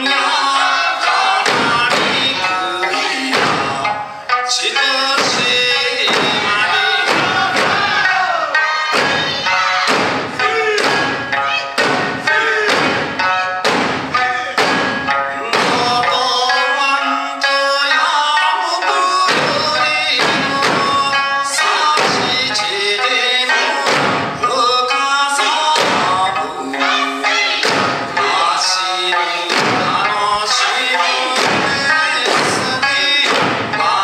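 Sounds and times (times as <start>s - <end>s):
large barrel drums: 0.0s - 16.8s, 18.4s - 34.0s
people singing: 0.0s - 34.0s
small hand drums: 0.0s - 34.0s.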